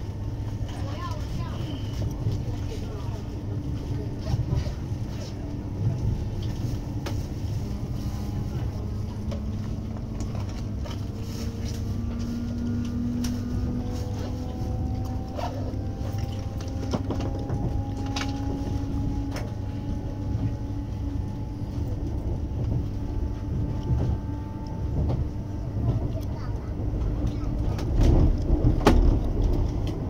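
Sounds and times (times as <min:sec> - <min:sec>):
train cabin rumble: 0:00.0 - 0:30.0.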